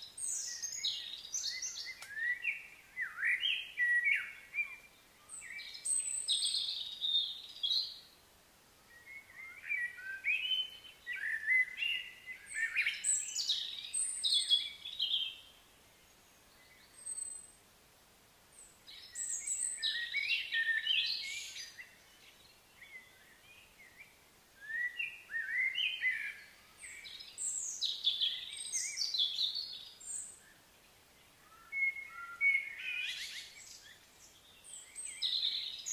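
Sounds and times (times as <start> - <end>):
songbirds chirping and singing: 0.0 - 8.2, 8.9 - 17.6, 18.6 - 35.9.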